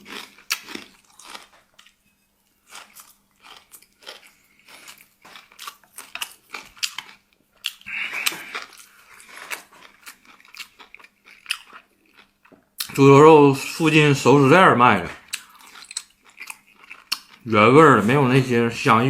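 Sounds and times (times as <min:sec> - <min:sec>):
person chewing crunchy food: 0:00.0 - 0:13.0, 0:15.1 - 0:17.5.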